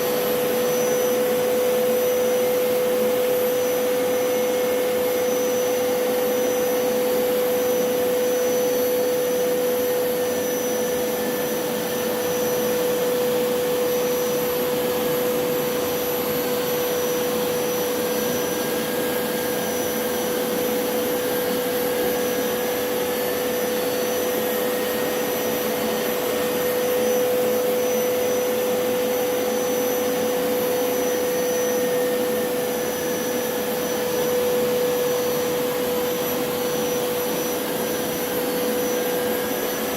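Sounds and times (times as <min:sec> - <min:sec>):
carpet cleaner motor whine: 0:00.0 - 0:39.9.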